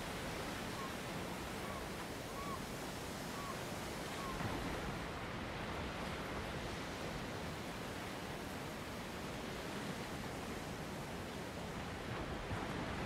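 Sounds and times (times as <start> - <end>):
sea surf: 0.0 - 13.0.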